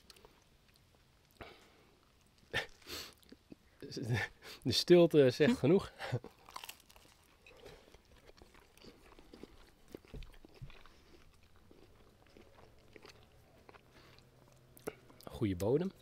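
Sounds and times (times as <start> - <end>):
people chewing: 0.0 - 3.8, 6.0 - 15.4.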